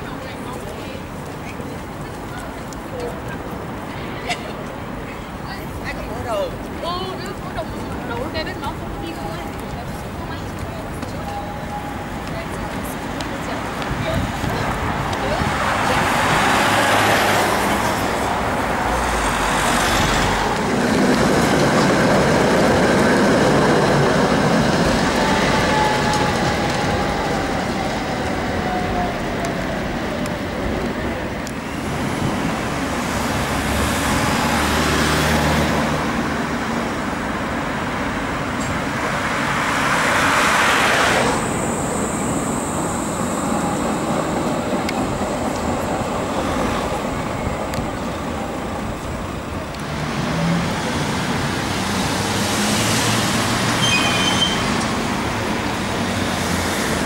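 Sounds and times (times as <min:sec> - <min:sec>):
city street traffic: 0:00.0 - 0:57.0
trams running on tracks: 0:00.0 - 0:57.0.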